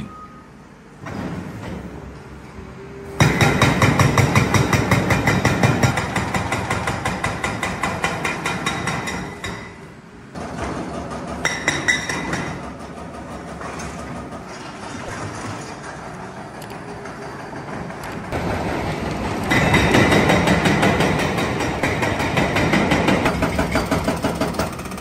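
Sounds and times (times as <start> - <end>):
hydraulic breaker pounding concrete: 3.2 - 9.8, 10.4 - 25.0.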